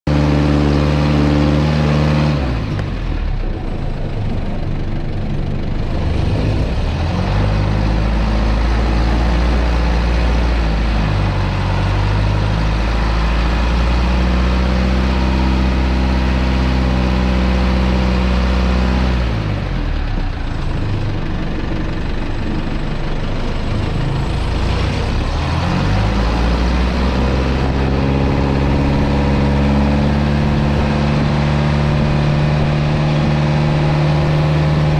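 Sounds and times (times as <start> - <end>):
truck diesel engine working hard: 0.1 - 34.9.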